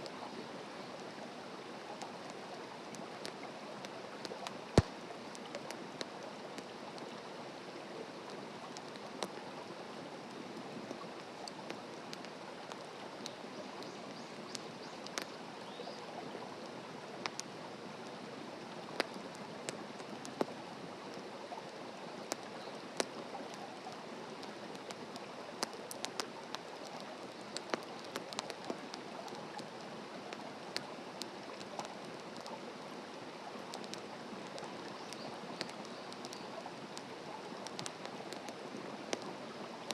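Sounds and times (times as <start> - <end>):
campfire hiss: 0.0 - 39.9
campfire crackling and popping: 1.0 - 7.2, 8.2 - 9.7, 10.3 - 15.5, 17.0 - 39.9.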